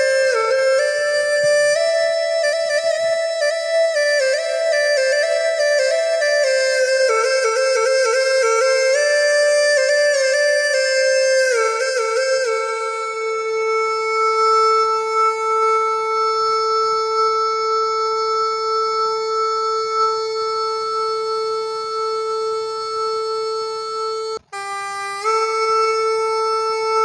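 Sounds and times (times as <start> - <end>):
reedy bamboo pipe notes: 0.0 - 27.0.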